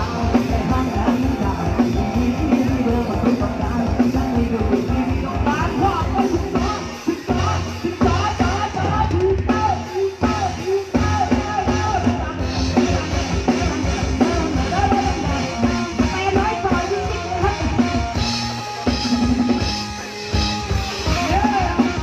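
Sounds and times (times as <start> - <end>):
drum kit beat: 0.0 - 22.0
live band playing upbeat music: 0.0 - 22.0.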